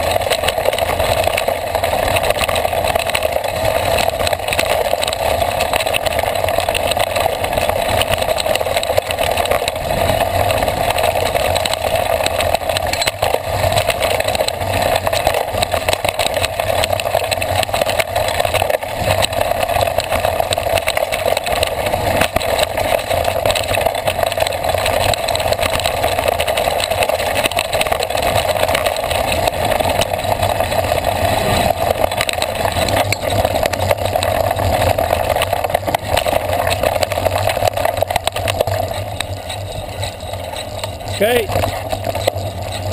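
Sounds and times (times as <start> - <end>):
bike tyre noise on dirt: 0.0 - 42.9
handlebar knocks and rattles: 0.0 - 42.9.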